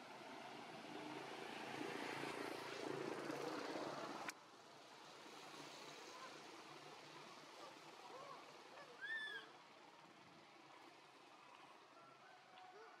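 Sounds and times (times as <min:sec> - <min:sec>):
faint engine drone: 0:00.0 - 0:13.0.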